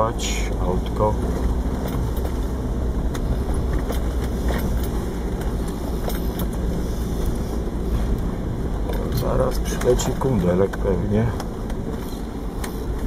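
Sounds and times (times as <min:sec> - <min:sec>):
car engine running low: 0:00.0 - 0:13.0.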